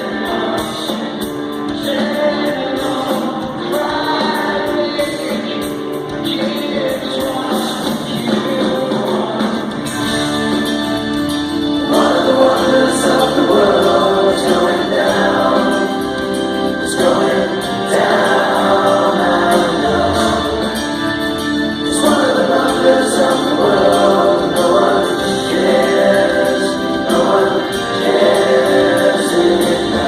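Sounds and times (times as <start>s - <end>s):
live rock band: 0.0s - 30.0s
several voices singing: 0.0s - 30.0s.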